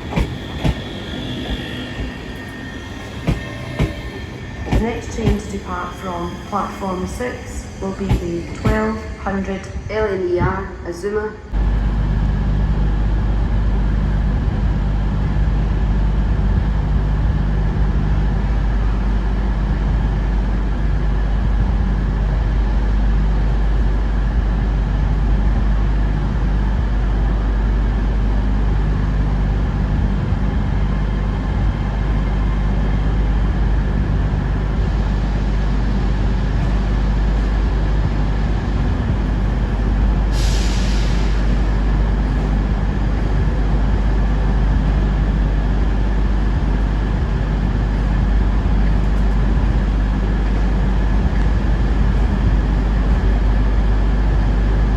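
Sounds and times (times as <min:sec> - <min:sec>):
train humming and rumbling: 0:00.0 - 0:54.9.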